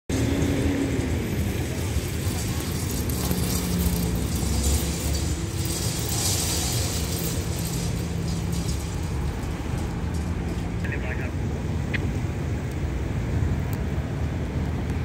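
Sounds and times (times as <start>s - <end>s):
vehicle engine passing: 0.1s - 14.8s
road traffic rumble: 0.1s - 15.0s.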